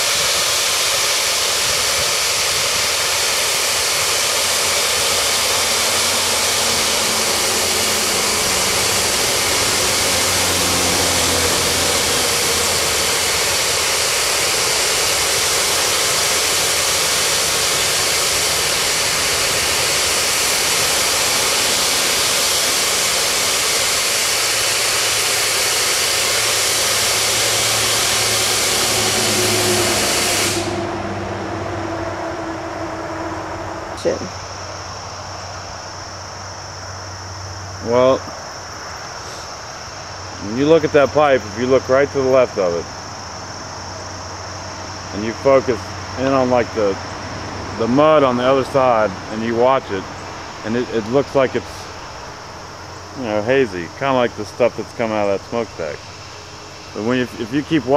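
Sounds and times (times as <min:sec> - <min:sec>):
gas venting with rushing hiss: 0:00.0 - 0:31.5, 0:34.0 - 0:57.9.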